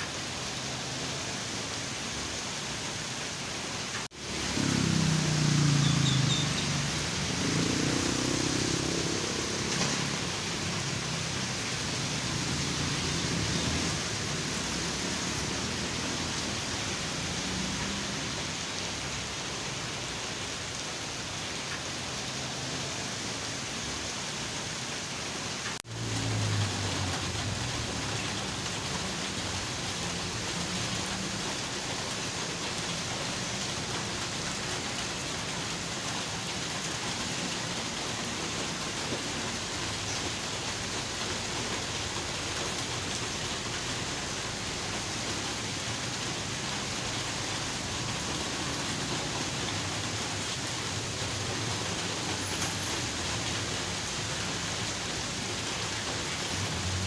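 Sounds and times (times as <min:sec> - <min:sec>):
heavy rain on a road: 0:00.0 - 0:57.0
passing traffic rumble: 0:00.2 - 0:57.0.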